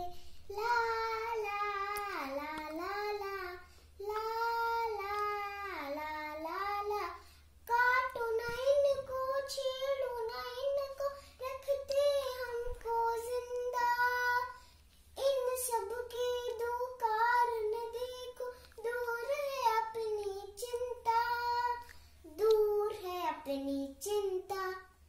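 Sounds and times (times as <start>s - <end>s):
girl singing unaccompanied: 0.0s - 25.0s.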